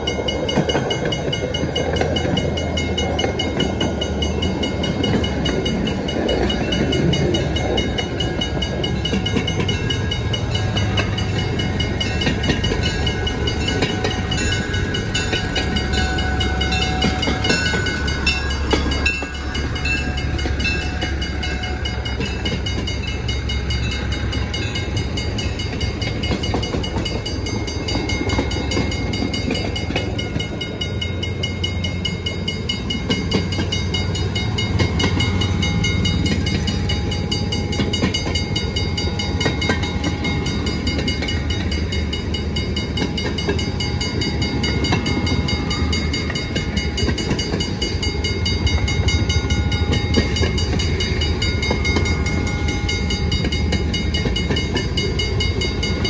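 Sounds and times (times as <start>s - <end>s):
crossing bell ringing: 0.0s - 56.0s.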